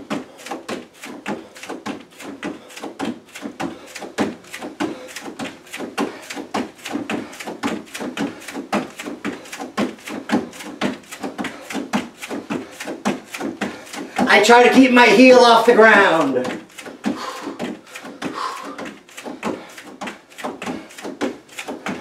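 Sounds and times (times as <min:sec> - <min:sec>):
bare feet thudding on step platform: 0:00.0 - 0:22.0.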